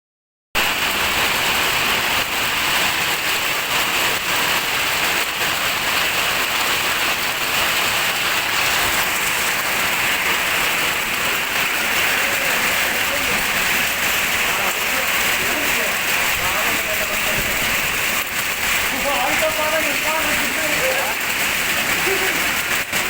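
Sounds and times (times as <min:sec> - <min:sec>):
heavy rain falling: 0:00.6 - 0:23.0.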